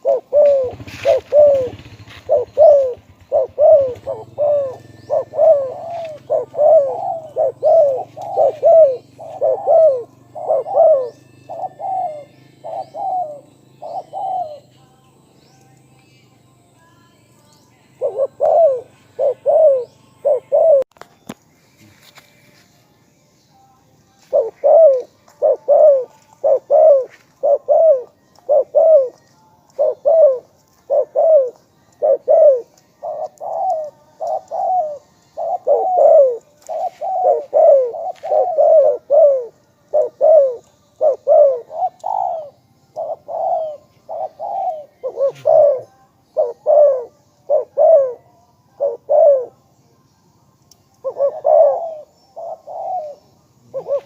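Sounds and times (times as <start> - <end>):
dove cooing: 0.0 - 14.7, 17.9 - 20.9, 24.3 - 49.6, 51.0 - 54.0.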